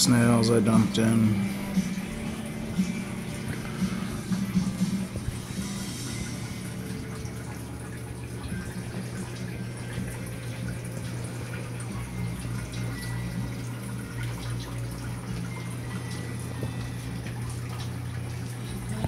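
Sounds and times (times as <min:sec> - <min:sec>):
low pump hum: 0:00.0 - 0:19.0
water rushing and trickling: 0:00.0 - 0:19.0.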